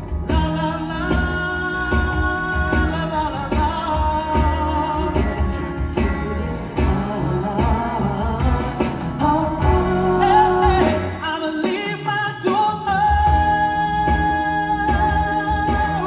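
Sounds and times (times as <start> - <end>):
band accompaniment: 0.0 - 16.0
steady drum beat: 0.0 - 16.0
male vocal group singing: 0.3 - 16.0.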